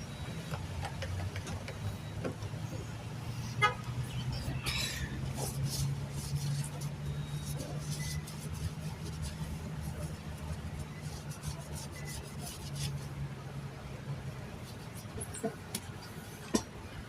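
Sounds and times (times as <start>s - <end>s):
tire rubbing and scraping: 0.0s - 17.0s.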